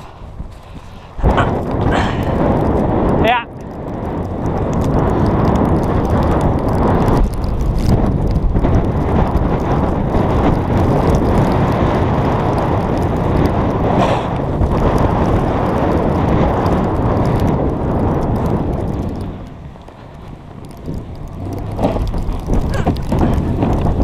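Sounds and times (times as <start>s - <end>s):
snowboard scraping over snow: 0.0s - 3.3s, 4.0s - 24.0s
wind over camera microphone: 0.0s - 24.0s.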